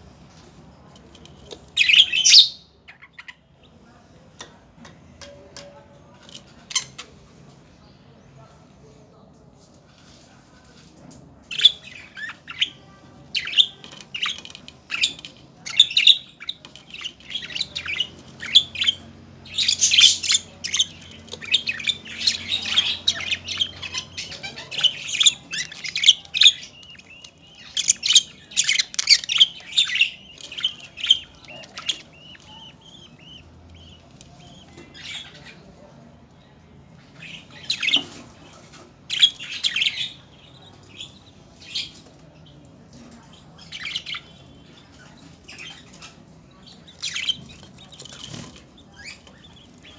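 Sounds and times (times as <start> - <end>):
budgerigars chirping and squawking: 0.9 - 3.7, 6.2 - 7.3, 11.4 - 35.9, 36.9 - 49.9.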